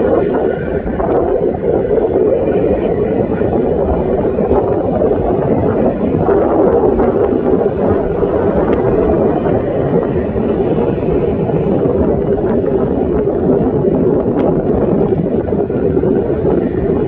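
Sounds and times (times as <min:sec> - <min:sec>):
helicopter turbine drone: 0:00.0 - 0:17.0.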